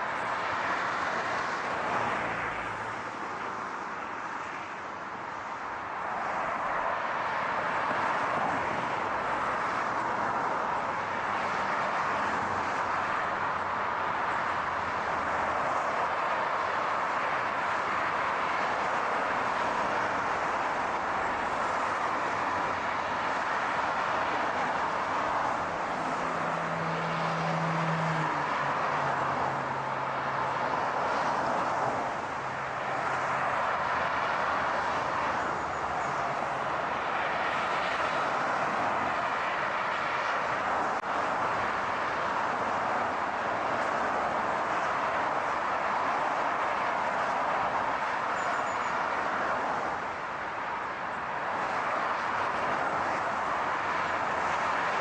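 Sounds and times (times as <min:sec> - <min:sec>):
car and road noise: 0:00.0 - 0:55.0.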